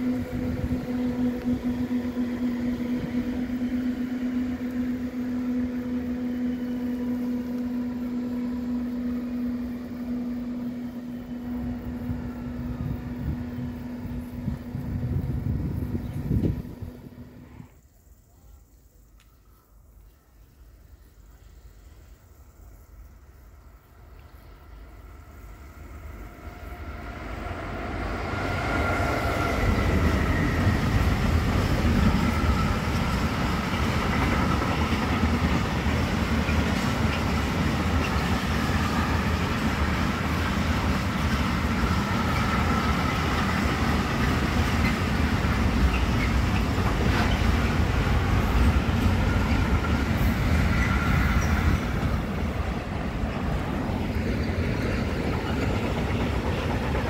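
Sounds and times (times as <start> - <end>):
train wheels rumbling on rails: 0.0 - 17.8, 20.0 - 57.0.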